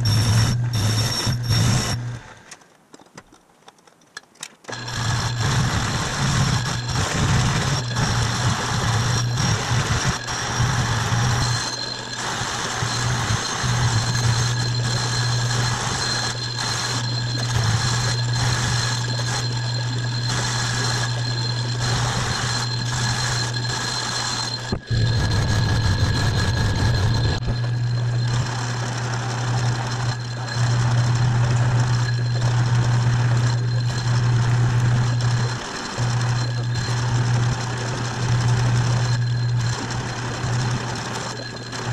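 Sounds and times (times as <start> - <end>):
high squeal from cutting tool: 0.0 - 2.3, 4.7 - 41.9
lathe motor hum: 0.0 - 2.4, 4.7 - 41.9.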